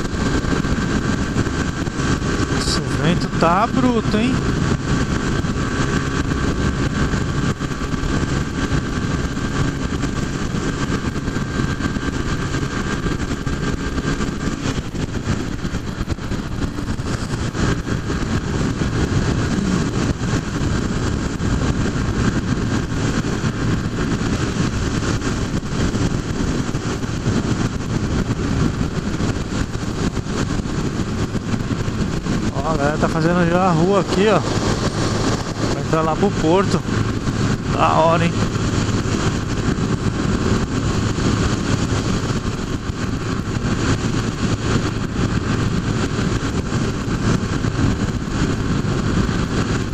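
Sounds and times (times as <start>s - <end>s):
motorcycle engine cruising: 0.0s - 49.9s
wind rush on microphone: 0.0s - 49.9s.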